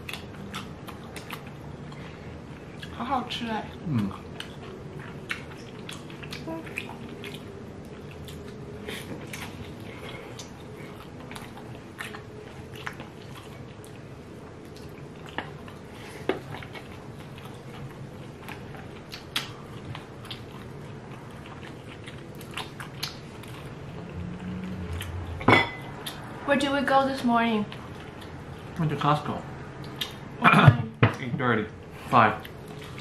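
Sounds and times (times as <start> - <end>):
chewing with wet mouth noises: 0.0 - 26.4, 27.6 - 30.3, 32.2 - 33.0.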